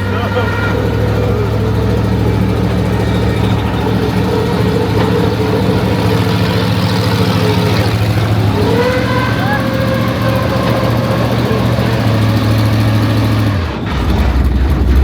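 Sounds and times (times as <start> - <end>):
truck engine running low hum: 0.0 - 15.0.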